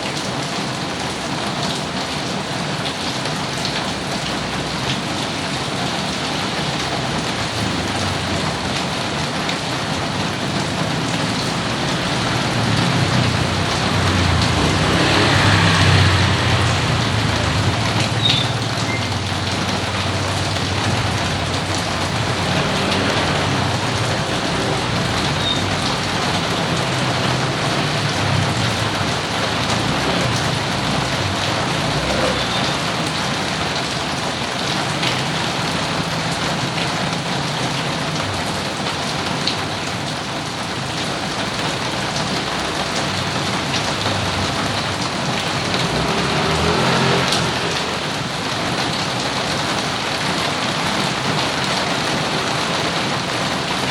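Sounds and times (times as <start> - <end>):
rain pattering on surfaces: 0.0 - 53.9.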